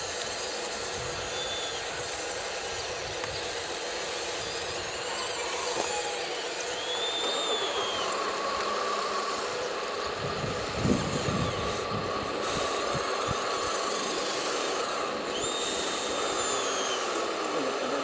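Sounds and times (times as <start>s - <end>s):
high motor whine: 0.0s - 18.0s
motor hum: 0.0s - 18.0s.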